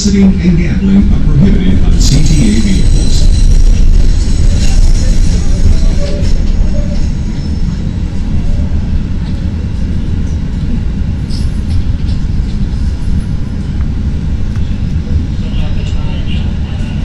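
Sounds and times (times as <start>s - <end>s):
train rumbling on elevated track: 0.0s - 17.0s.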